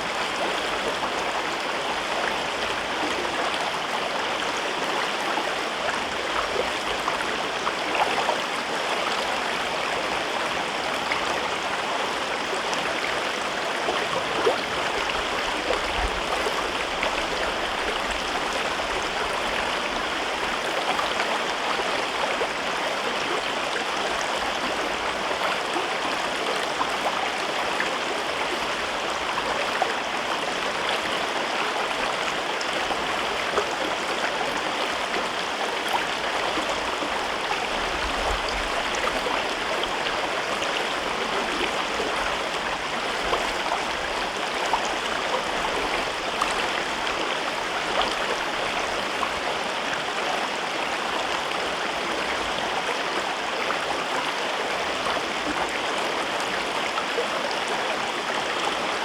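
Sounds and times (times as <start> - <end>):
river water babbling over rocks: 0.0 - 59.0.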